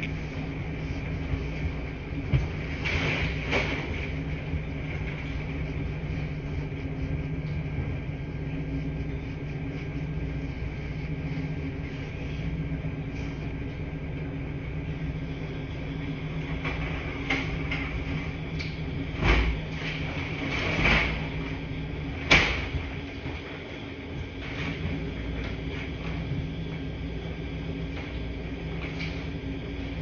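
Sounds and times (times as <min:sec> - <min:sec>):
washing machines humming: 0:00.0 - 0:30.0.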